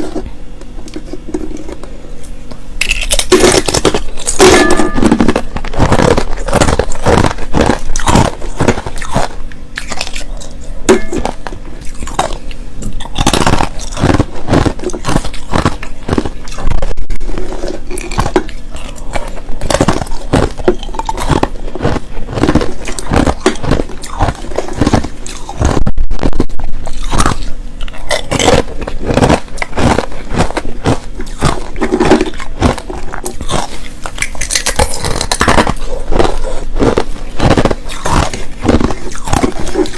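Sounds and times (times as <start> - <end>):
person crunching ice: 2.8 - 39.9.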